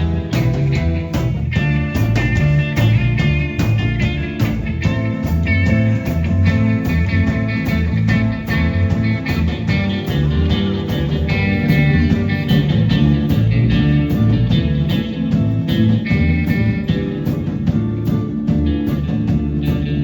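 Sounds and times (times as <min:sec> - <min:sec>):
cymbals beat: 0:00.0 - 0:17.9
bass line: 0:00.0 - 0:20.0
electric guitar: 0:00.0 - 0:20.0
live blues-rock band: 0:00.0 - 0:20.0.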